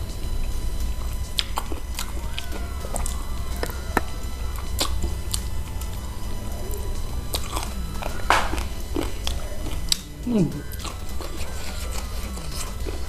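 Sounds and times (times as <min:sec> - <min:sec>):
person chewing and biting: 0:00.3 - 0:13.0.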